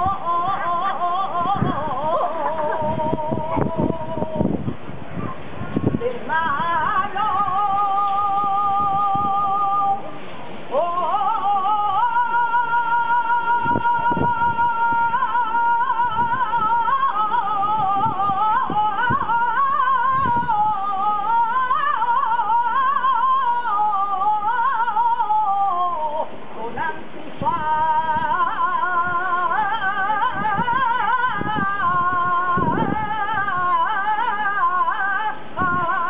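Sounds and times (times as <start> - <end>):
man singing unaccompanied: 0.0 - 4.6, 6.0 - 36.0.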